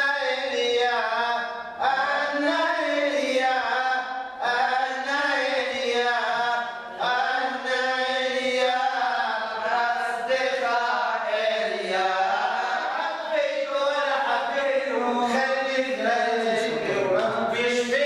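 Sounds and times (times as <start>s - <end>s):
prayer chant singing: 0.0s - 18.0s.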